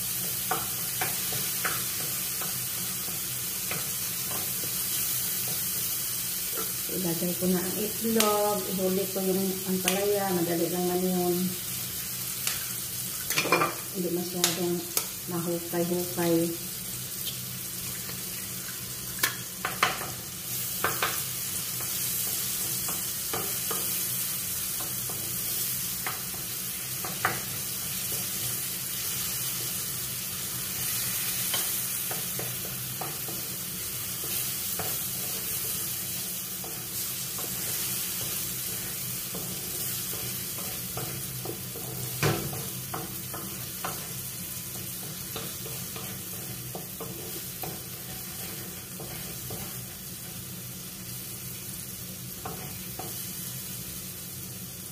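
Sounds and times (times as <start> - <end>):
eggs sizzling in hot oil: 0.0 - 54.9.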